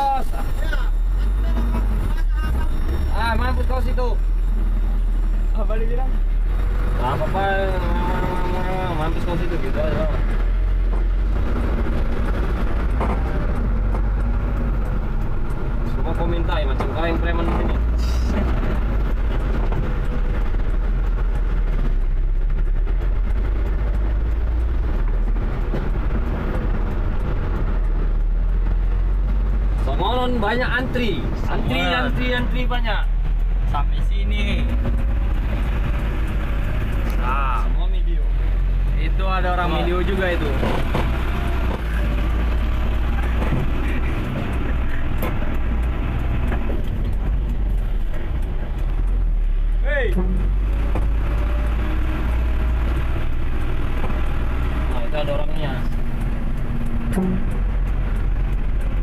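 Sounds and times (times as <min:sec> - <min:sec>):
diesel trucks engine rumble: 0:00.0 - 0:59.0.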